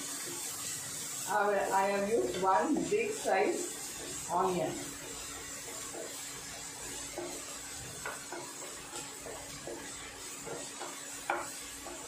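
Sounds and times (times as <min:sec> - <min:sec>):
onion sizzling in a pan: 0:00.0 - 0:12.0
spatula scraping a pan: 0:00.0 - 0:12.0.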